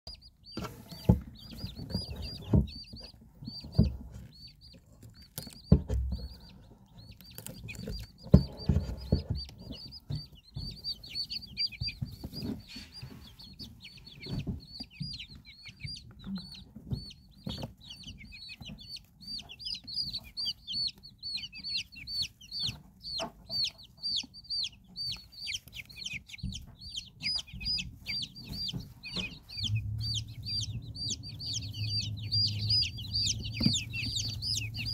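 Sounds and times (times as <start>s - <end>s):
chicks peeping: 0.1s - 34.9s
dull thumps: 0.5s - 20.5s, 25.6s - 34.9s.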